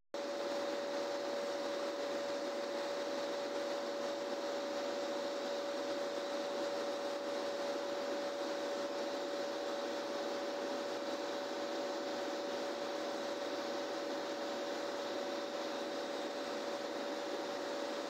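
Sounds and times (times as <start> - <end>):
refrigeration compressor whine: 0.2 - 18.0.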